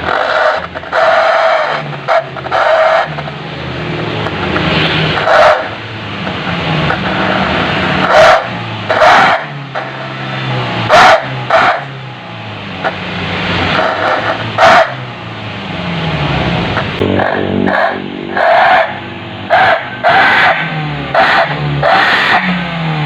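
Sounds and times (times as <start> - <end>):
car engine exhaust growl: 0.0 - 23.0
loud exhaust bursts: 0.0 - 23.0.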